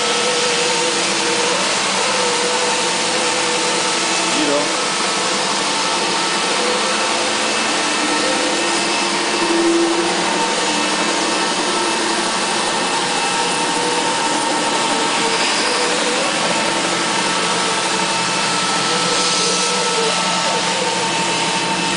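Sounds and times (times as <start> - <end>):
floor scrubber suction motor rushing: 0.0 - 21.9
steady machine whine: 0.0 - 21.9.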